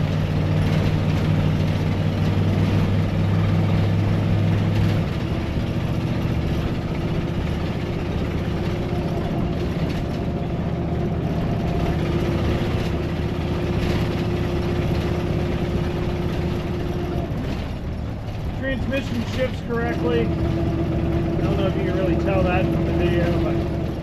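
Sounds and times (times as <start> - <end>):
motorhome engine running: 0.0 - 24.0
road noise: 0.0 - 24.0.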